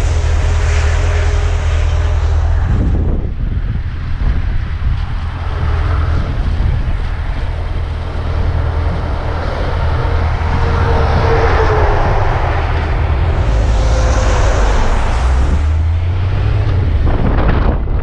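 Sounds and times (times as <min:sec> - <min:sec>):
air rushing over microphone: 0:00.0 - 0:18.0.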